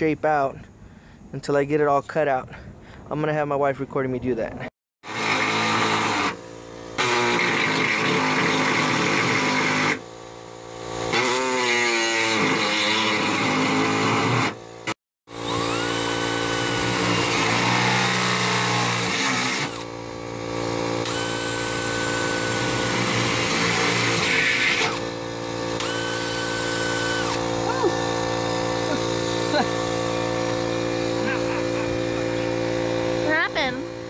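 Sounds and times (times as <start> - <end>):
pneumatic air tool cutting metal: 5.0 - 34.0.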